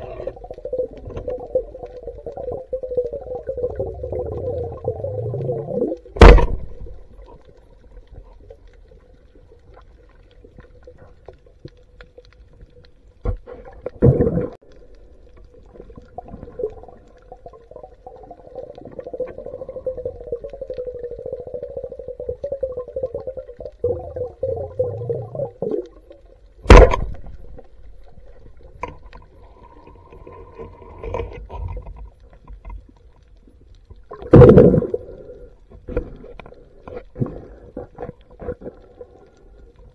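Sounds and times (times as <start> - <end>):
gurgling water: 0.0 - 11.3, 15.4 - 39.9.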